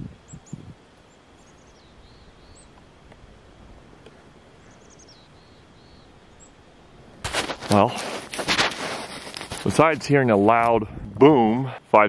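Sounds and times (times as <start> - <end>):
songbirds chirping faintly: 0.0 - 12.0.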